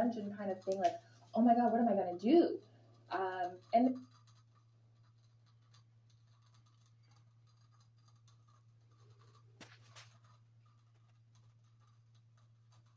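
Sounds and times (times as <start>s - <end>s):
faint low hum: 0.0s - 12.9s
small rustles: 0.0s - 12.9s.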